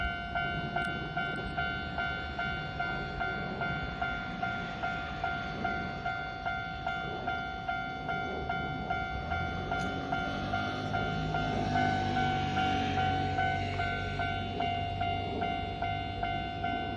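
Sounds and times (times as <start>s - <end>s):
train rumble: 0.0s - 16.9s.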